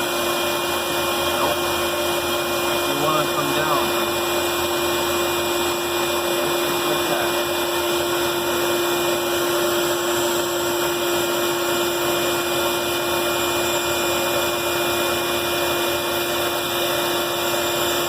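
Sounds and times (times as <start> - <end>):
band saw running: 0.0 - 18.0.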